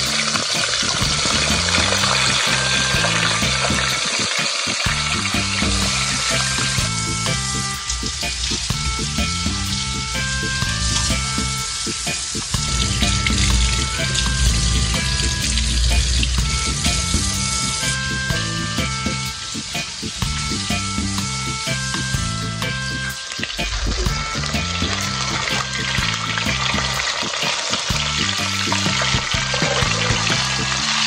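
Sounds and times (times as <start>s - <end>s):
background music with bass line: 0.0s - 31.0s
fish sizzling in hot oil: 0.0s - 31.0s.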